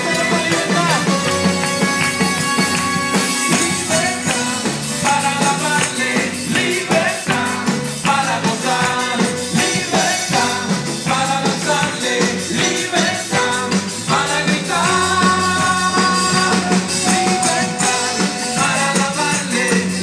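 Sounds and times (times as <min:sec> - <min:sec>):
congas: 0:00.0 - 0:20.0
live band playing praise music: 0:00.0 - 0:20.0
shaken tambourines: 0:00.0 - 0:20.0.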